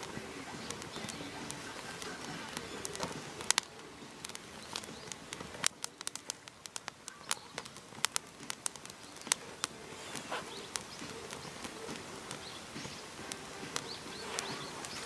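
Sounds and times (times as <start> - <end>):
faint steady hiss: 0.0 - 15.0
sharp clicks and snaps: 0.0 - 15.0.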